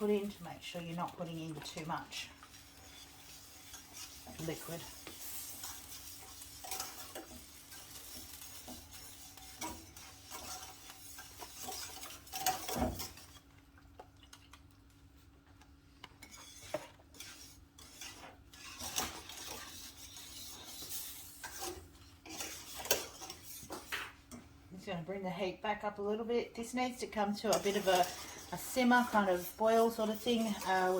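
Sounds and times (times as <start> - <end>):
utensil scraping a saucepan: 0.0 - 13.6, 16.0 - 24.4, 26.6 - 30.9.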